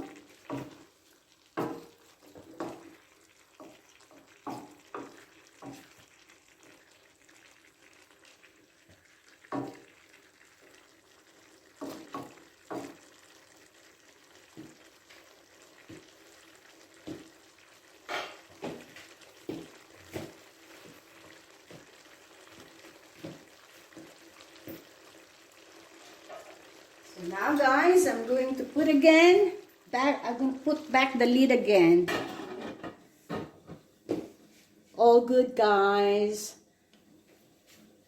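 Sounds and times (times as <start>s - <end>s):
stir fry hissing in a pan: 0.0s - 31.6s.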